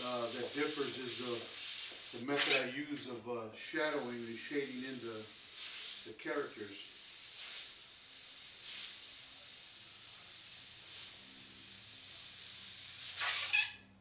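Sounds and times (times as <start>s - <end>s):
airbrush hissing: 0.0s - 13.8s.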